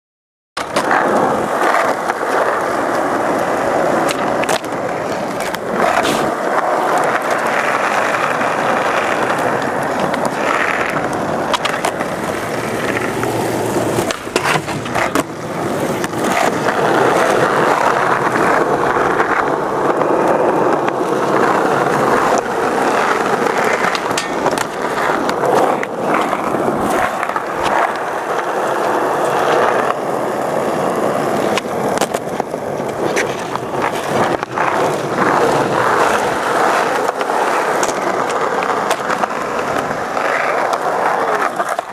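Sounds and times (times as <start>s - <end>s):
skateboard clacking: 0.6s - 41.9s
skateboard wheels rolling on concrete: 0.6s - 41.9s.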